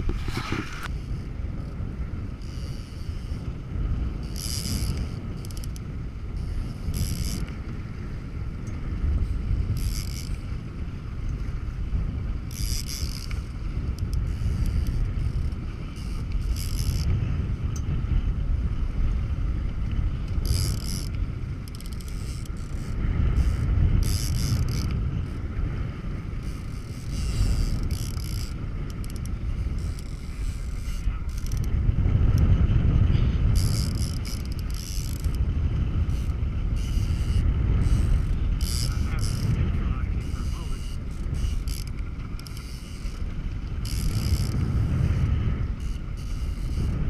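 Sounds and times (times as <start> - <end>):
boat motor rumble: 0.0 - 47.0
wind on microphone: 0.0 - 47.0.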